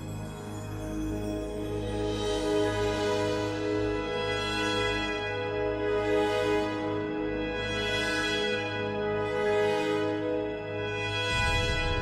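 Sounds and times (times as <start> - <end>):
music with long held chords: 0.0 - 12.0.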